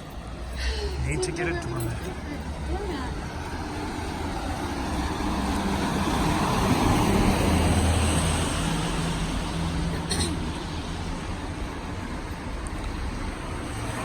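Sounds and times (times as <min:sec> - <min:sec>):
vehicle passing on wet street: 0:00.0 - 0:14.0.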